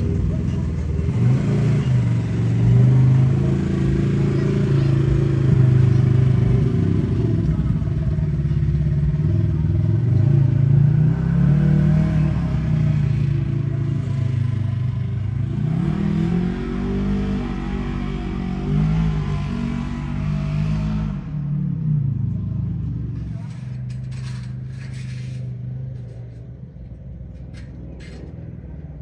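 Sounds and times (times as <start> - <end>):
engine revving: 0.0 - 26.1.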